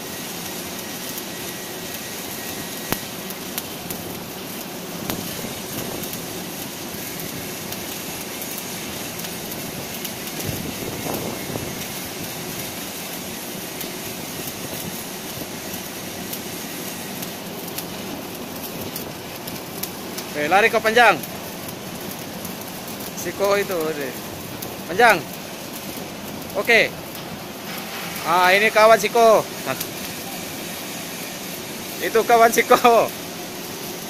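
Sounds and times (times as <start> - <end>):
welding arc crackling hiss: 0.0 - 34.0
welding arc pops: 0.0 - 34.0.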